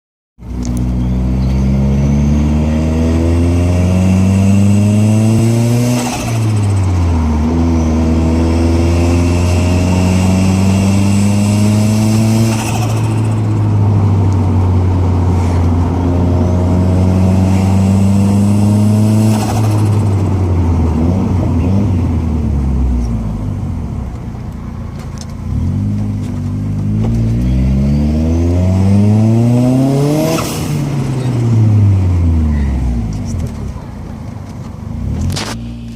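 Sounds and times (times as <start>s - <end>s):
car engine accelerating: 0.4s - 35.9s.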